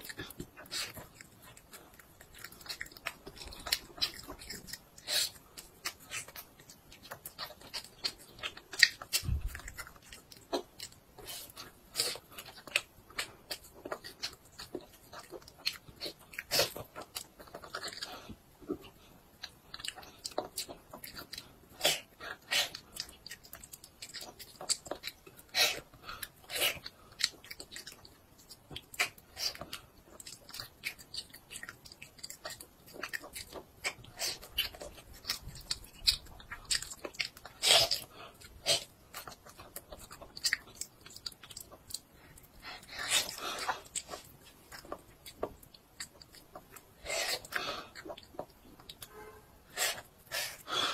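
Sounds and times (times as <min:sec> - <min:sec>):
child chewing meat: 0:00.0 - 0:50.9.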